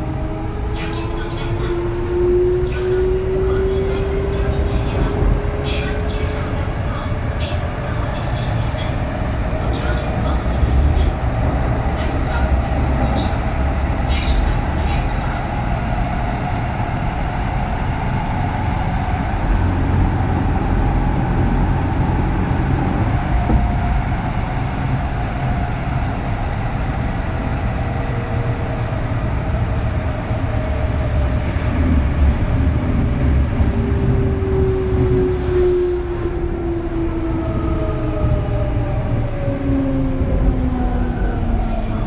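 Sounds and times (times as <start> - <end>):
train running rumble: 0.0 - 42.0.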